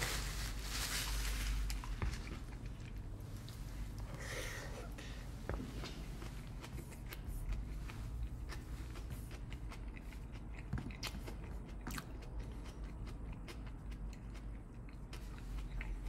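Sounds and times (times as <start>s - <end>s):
person chewing food: 1.5s - 16.0s.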